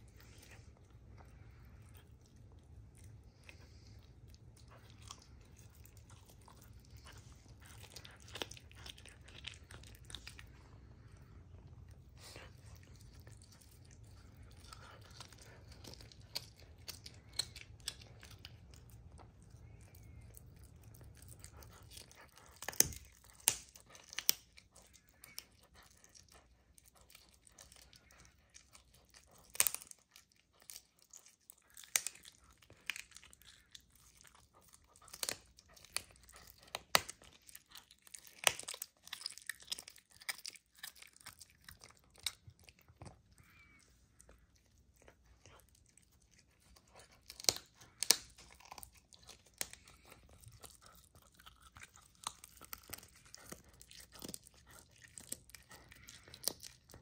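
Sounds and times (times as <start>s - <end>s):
animal crunching meat and bone: 0.0s - 57.0s.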